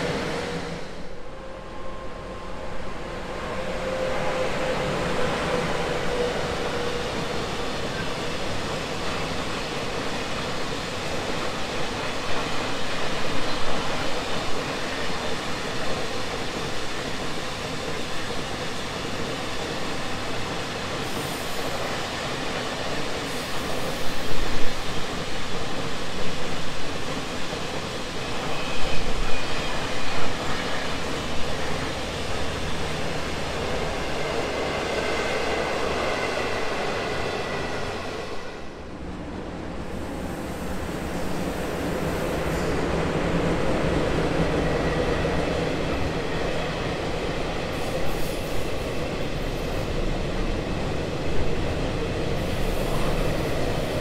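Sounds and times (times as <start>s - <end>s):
train wheels clattering on rail: 3.8s - 38.6s, 39.9s - 54.0s.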